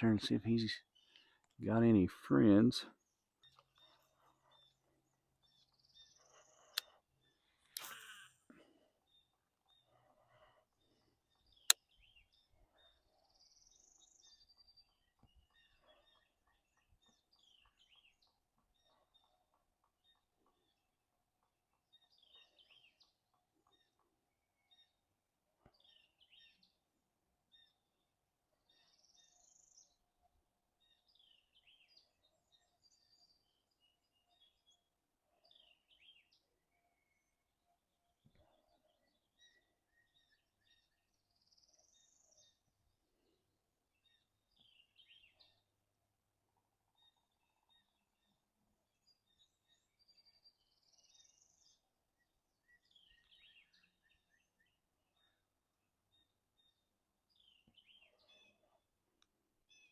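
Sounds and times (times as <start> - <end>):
faint birdsong: 0.0 - 59.9
songbirds chirping and singing: 0.0 - 59.9.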